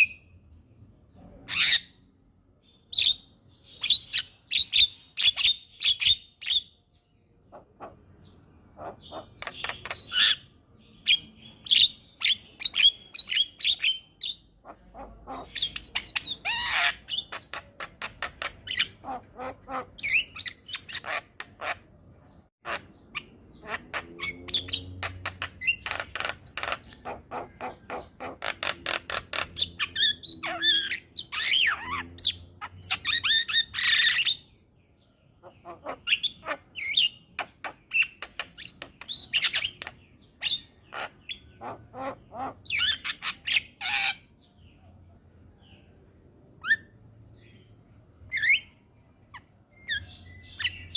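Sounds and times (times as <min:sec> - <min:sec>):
birds chattering with harsh clicks: 0:00.0 - 0:50.9.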